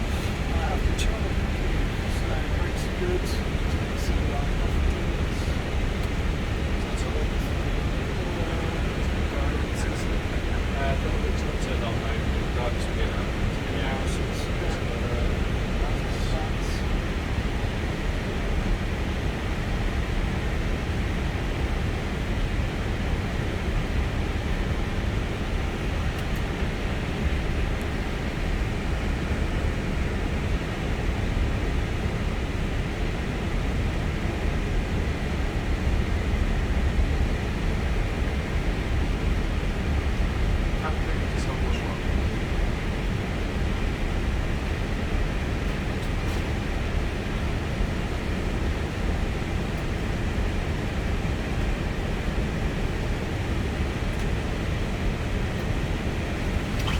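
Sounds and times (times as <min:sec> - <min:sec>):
low cockpit rumble: 0:00.0 - 0:56.9.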